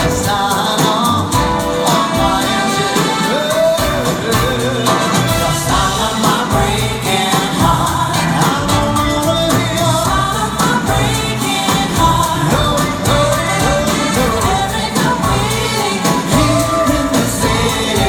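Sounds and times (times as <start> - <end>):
live pop band playing: 0.0 - 18.0
male singer: 0.0 - 18.0.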